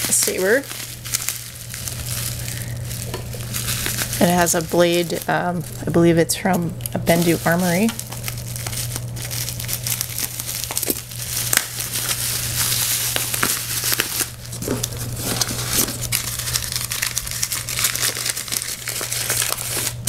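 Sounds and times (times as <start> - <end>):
bubble wrap crinkling: 0.0 - 20.0
packing paper crumpling: 0.0 - 20.0
steady low hum: 0.0 - 20.0.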